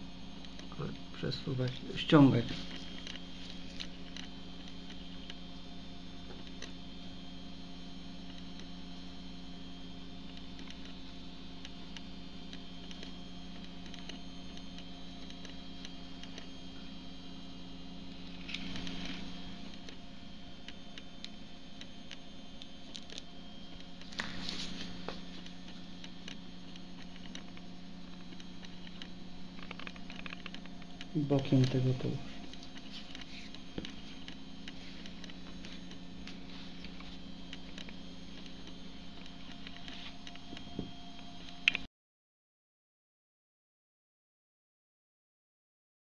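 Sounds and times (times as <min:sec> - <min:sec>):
steady electrical hum: 0:00.0 - 0:41.9.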